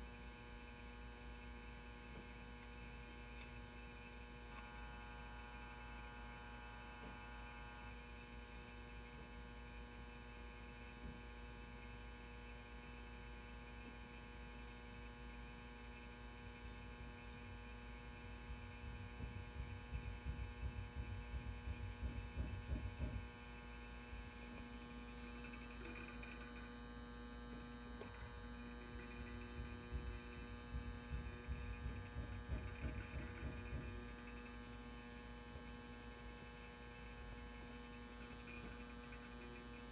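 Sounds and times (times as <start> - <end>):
lamp ballast electrical hum: 0.0 - 39.9.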